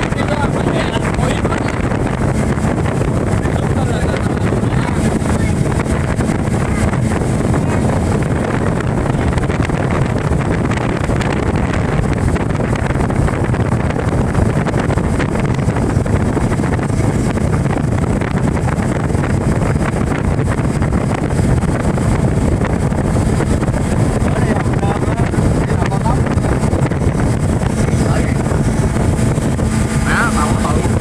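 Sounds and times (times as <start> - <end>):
motorboat engine: 0.0 - 31.0
rushing water: 0.0 - 31.0
wind buffeting microphone: 0.0 - 31.0.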